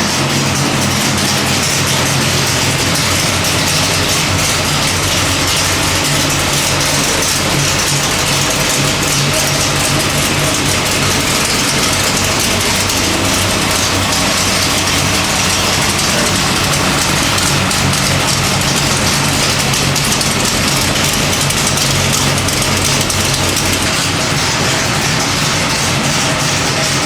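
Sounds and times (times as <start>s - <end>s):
engine running on dyno: 0.0s - 27.0s.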